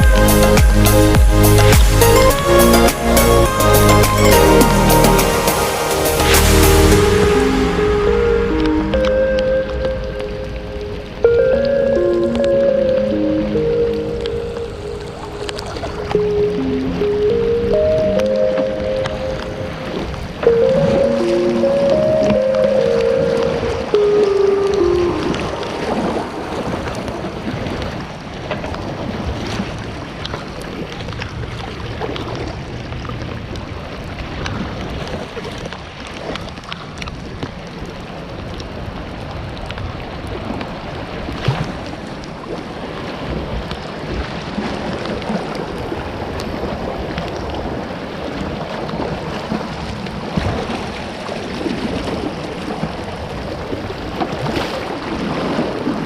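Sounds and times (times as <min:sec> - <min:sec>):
creek water rushing and splashing: 0:00.0 - 0:56.0.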